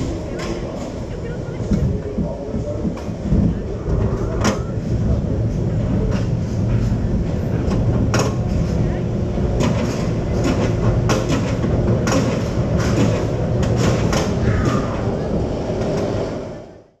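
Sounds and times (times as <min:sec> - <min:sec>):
roller coaster wheels rumbling: 0:00.0 - 0:17.0.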